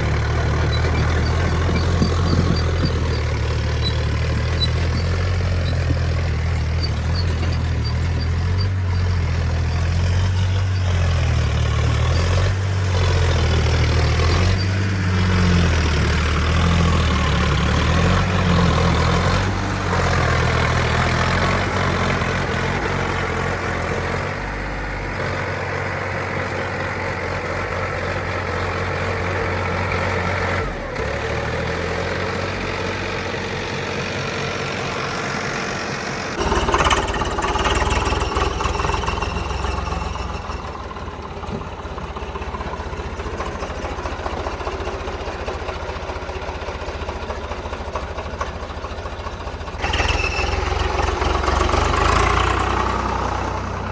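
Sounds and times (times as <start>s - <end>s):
tractor diesel engines running: 0.0s - 53.9s.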